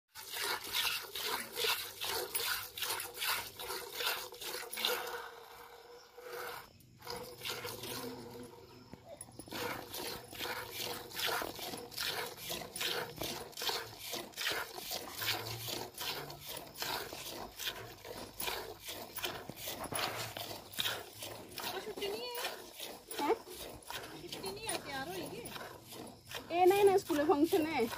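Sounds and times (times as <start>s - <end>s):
milk squirting into steel pail: 0.2s - 8.5s, 9.4s - 27.9s.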